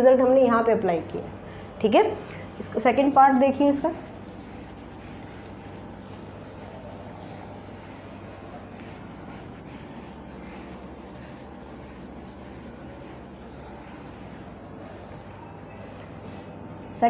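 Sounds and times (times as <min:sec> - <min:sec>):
low room hum: 0:00.0 - 0:17.0
duster swishing on whiteboard: 0:02.9 - 0:17.0.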